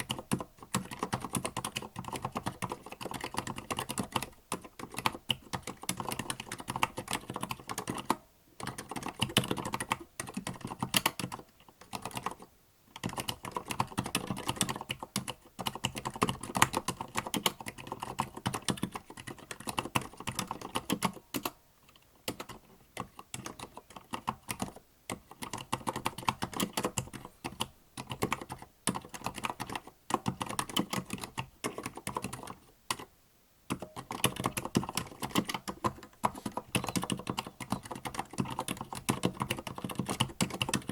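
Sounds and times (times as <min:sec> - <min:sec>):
muted keyboard typing: 0:00.0 - 0:33.1, 0:33.7 - 0:40.9.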